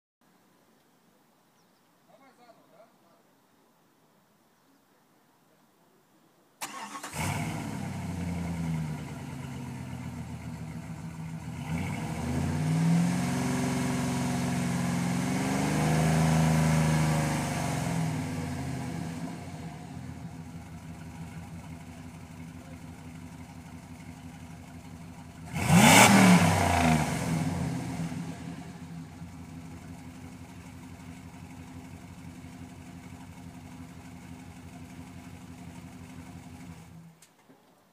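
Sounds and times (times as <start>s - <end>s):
suv engine idling and revving: 6.7s - 37.2s.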